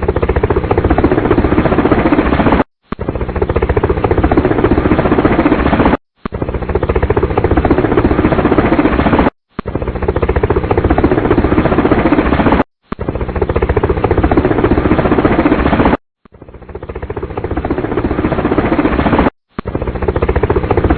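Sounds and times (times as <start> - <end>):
helicopter rotor blades chopping: 0.0 - 20.9.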